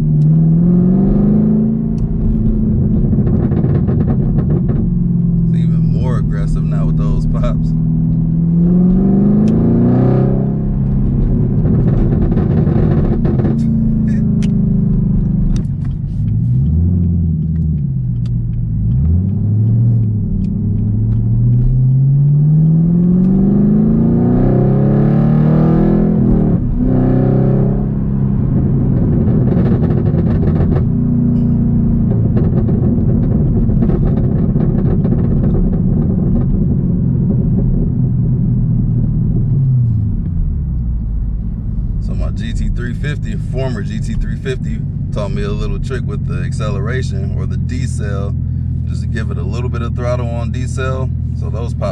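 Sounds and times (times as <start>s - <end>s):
car engine revving: 0.0s - 51.9s
exhaust pops: 1.7s - 24.7s, 26.0s - 51.9s.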